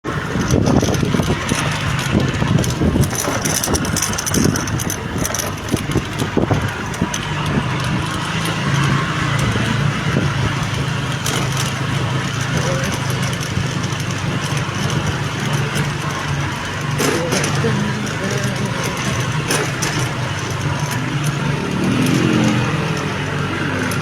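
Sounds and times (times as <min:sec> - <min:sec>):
steady rushing noise: 0:00.0 - 0:24.0
vehicle engine running: 0:00.0 - 0:24.0.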